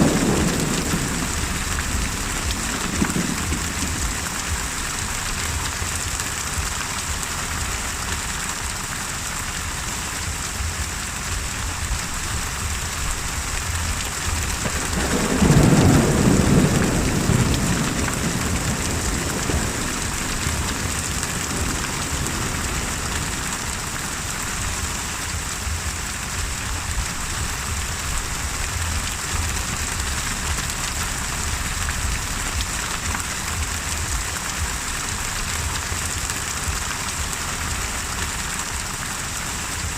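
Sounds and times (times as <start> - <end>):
thunder rumbling: 0.0 - 7.7, 10.1 - 39.0
heavy rain pouring: 0.0 - 39.9.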